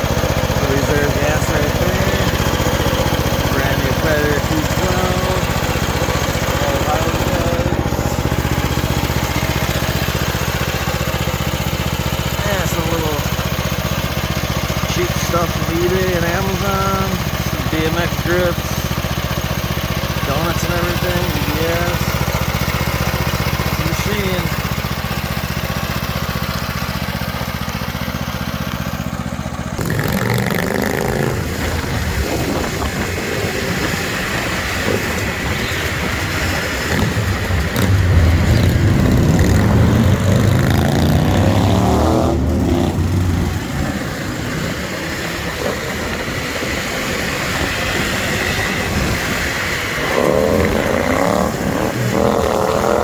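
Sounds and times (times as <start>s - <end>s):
minibike engine idling and revving: 0.0s - 53.0s.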